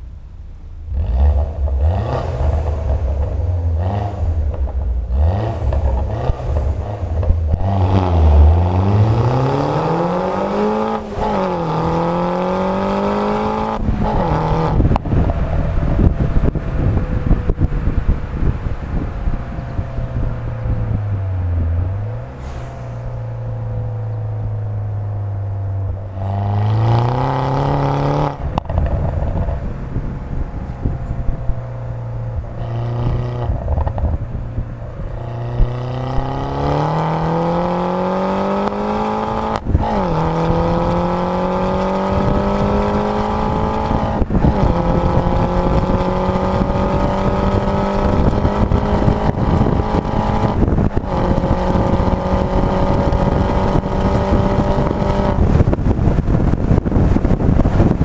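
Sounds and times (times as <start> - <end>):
car engine accelerating hard: 0.8 - 58.0.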